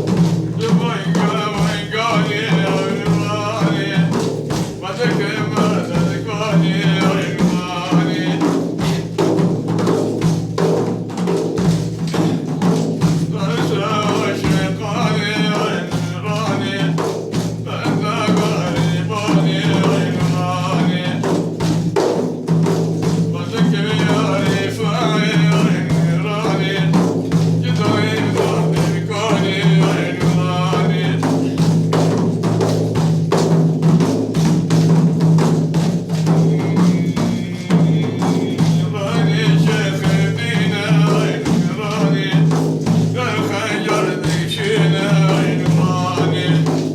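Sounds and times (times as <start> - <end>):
man singing a praise song: 0.0 - 46.9
steady drumming: 0.0 - 46.9.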